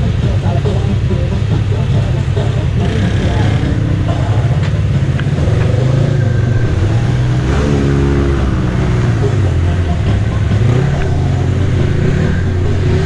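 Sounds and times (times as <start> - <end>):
utility vehicle engines revving: 0.0 - 13.0.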